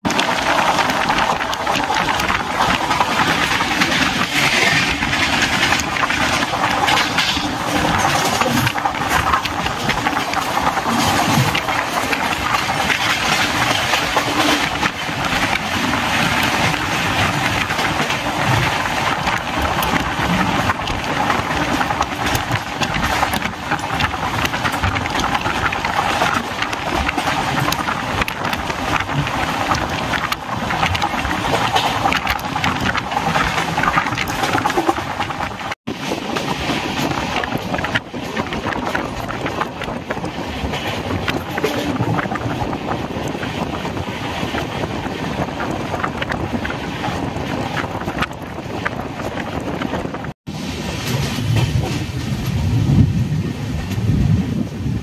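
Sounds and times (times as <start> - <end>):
train wheels on rails: 0.0 - 55.0
wind buffeting microphone: 0.0 - 55.0.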